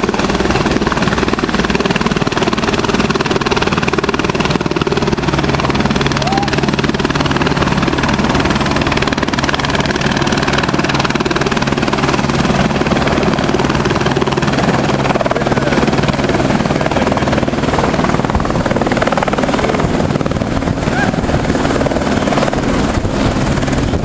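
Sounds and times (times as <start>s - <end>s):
helicopter engine hum: 0.0s - 24.0s
helicopter rotor chop: 0.0s - 24.0s.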